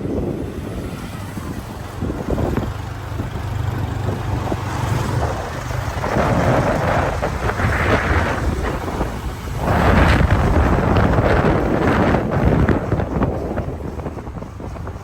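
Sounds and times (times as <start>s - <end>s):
motorbike engine running: 0.0s - 15.0s
wind rushing over microphone: 0.0s - 15.0s.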